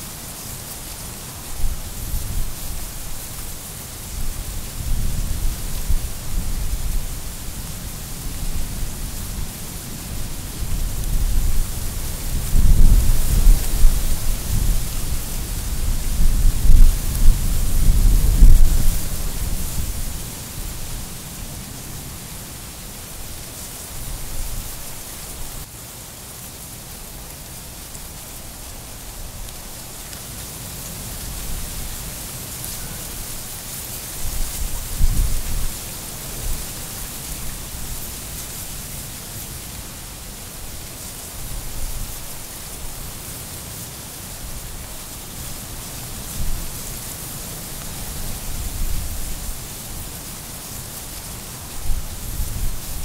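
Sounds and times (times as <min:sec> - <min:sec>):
steady high hiss: 0:00.0 - 0:53.0.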